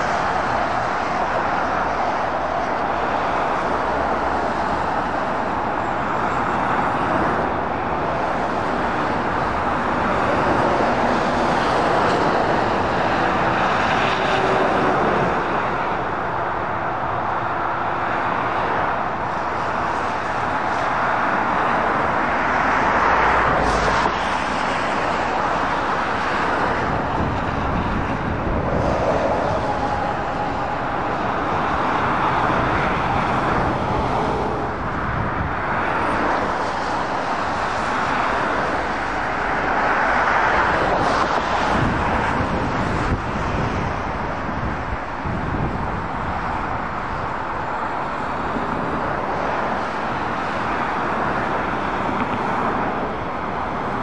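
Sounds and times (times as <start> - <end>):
motorway traffic: 0.0 - 54.0.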